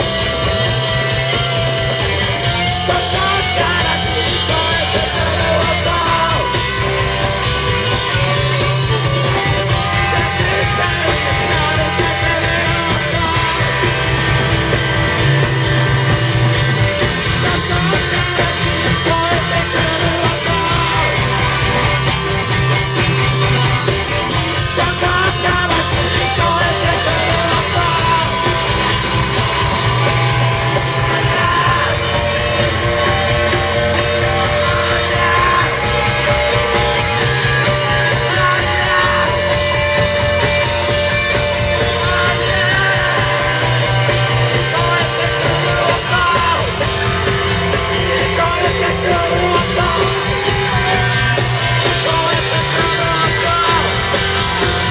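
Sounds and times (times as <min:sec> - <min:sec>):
drum kit: 0:00.0 - 0:54.9
electric guitars: 0:00.0 - 0:54.9
man singing and shouting: 0:00.0 - 0:54.9.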